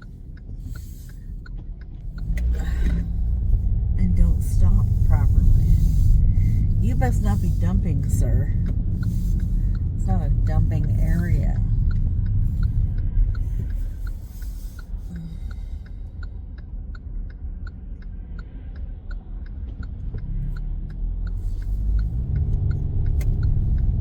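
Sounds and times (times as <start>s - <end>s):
car engine and road rumble: 0.0s - 24.0s
turn signal ticking: 0.0s - 24.0s.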